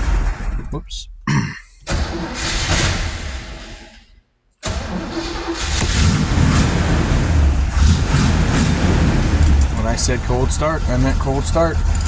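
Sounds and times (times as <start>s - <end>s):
car engine starting and running: 0.0s - 12.0s.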